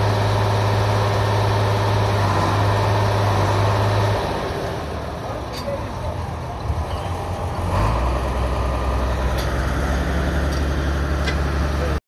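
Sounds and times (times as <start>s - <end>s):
machine engine running steadily: 0.0s - 12.0s.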